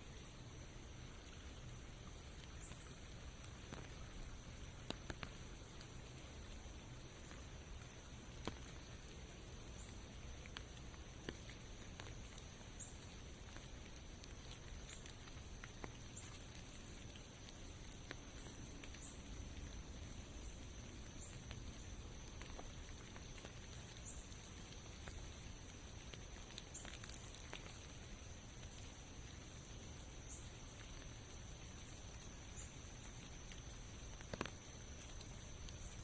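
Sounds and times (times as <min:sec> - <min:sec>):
light rain pattering: 0:00.0 - 0:36.0.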